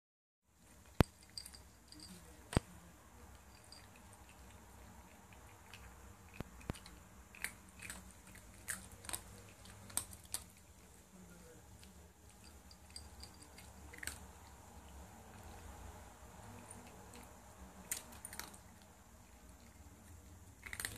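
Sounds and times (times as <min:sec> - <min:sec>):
cats chewing food: 0:00.6 - 0:20.9.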